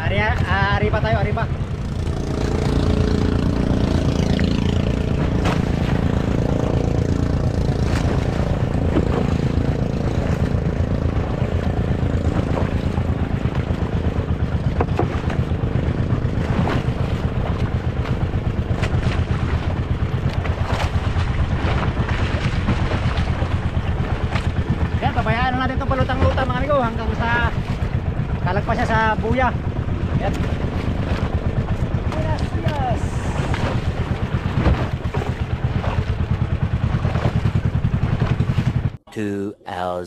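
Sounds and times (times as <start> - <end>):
water rushing along hull: 0.0 - 39.4
small boat engine pulsing: 0.0 - 40.0.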